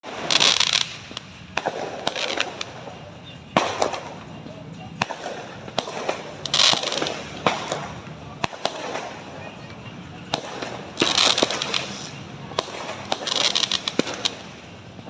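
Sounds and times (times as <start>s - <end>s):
fireworks bangs: 0.0s - 15.0s
fireworks crackling hiss: 0.0s - 15.0s.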